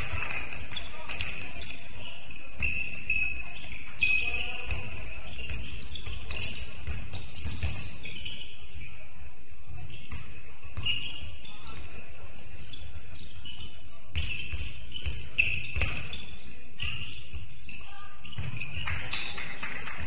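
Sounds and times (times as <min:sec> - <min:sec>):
sneaker squeaks: 0:00.0 - 0:19.7.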